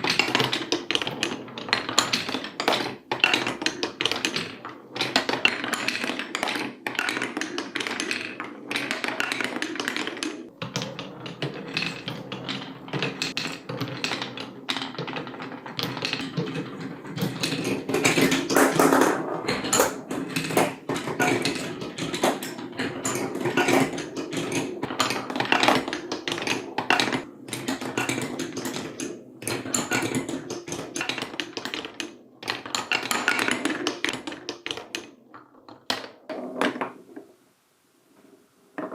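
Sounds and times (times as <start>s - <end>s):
marbles rolling on marble run: 0.0s - 37.3s.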